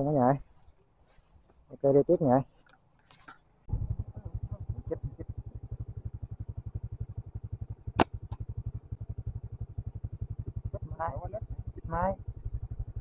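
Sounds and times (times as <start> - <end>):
small engine putter: 2.5 - 13.0.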